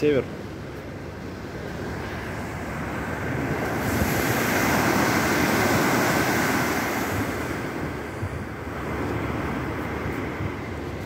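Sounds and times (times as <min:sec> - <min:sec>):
sea washing along ship hull: 0:00.0 - 0:11.0
wind rushing over microphone: 0:00.0 - 0:11.0.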